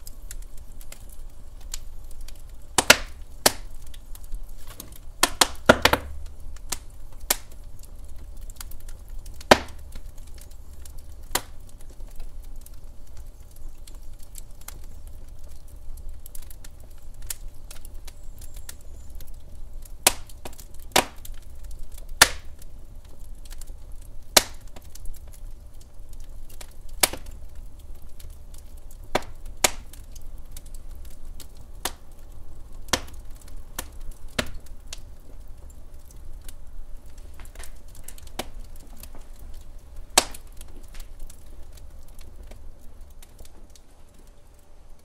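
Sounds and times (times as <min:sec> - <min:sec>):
log fire crackling: 0:00.0 - 0:45.0
low rumble of flames: 0:00.0 - 0:45.0.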